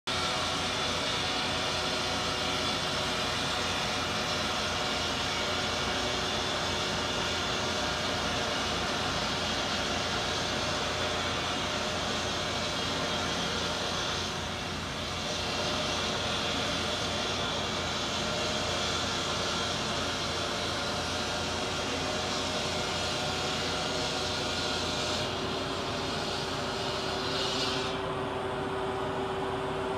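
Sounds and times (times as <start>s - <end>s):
asphalt saw cutting pavement: 0.1s - 29.9s.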